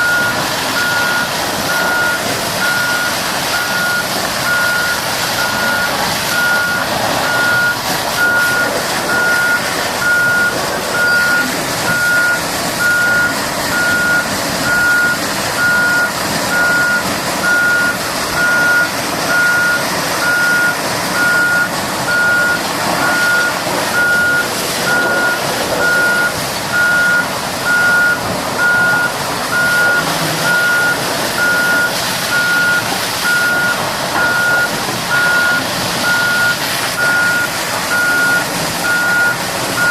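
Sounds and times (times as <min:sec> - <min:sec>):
reversing alarm beeping: 0:00.0 - 0:39.9.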